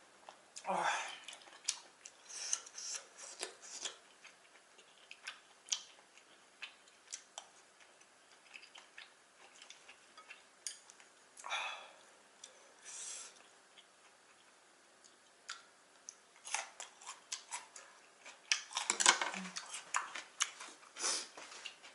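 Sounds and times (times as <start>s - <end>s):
wet chewing and mouth smacks: 0.2s - 11.1s, 13.3s - 21.9s.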